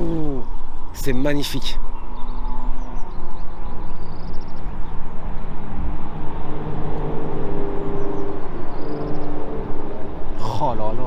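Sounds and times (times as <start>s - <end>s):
car engines droning: 1.8s - 11.0s.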